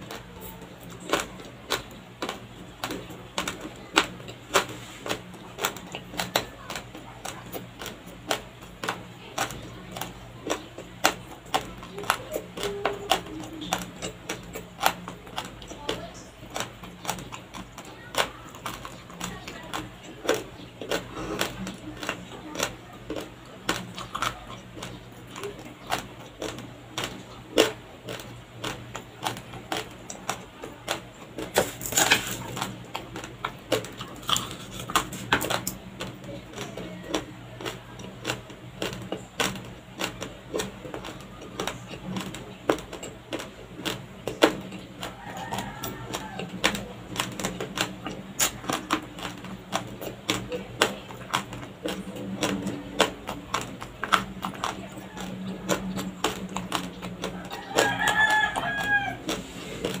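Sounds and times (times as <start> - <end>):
raw rice being chewed: 0.0 - 60.0.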